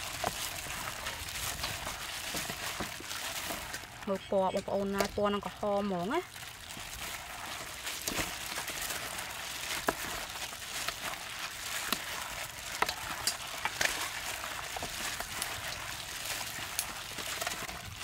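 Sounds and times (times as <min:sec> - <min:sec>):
plastic gloves crinkling: 0:00.0 - 0:18.0
wet squelching of marinade: 0:00.0 - 0:18.0.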